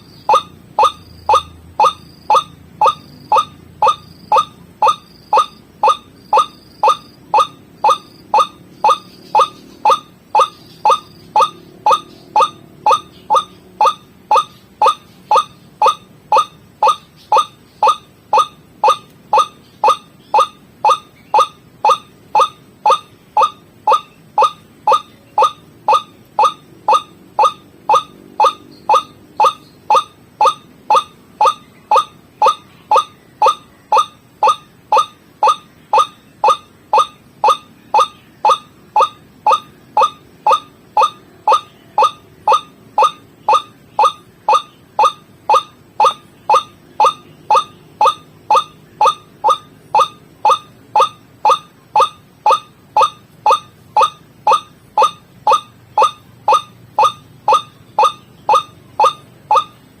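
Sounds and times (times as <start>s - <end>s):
waterhen call: 0.0s - 60.0s.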